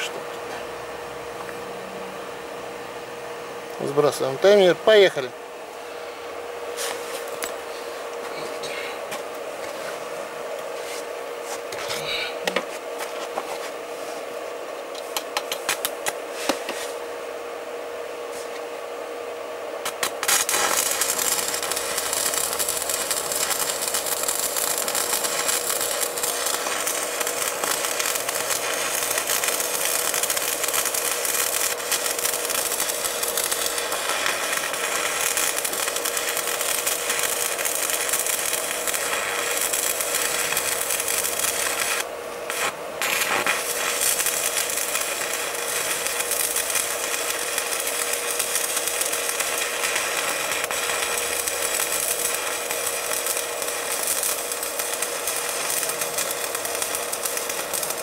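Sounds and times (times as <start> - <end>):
welding machine raspy buzz: 0.0 - 58.0.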